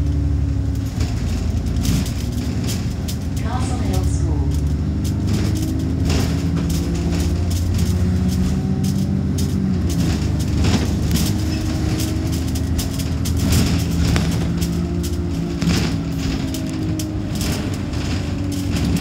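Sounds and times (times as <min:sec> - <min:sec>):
bus engine running: 0:00.0 - 0:19.0
knocks and rattles: 0:00.0 - 0:19.0
road noise: 0:00.0 - 0:19.0.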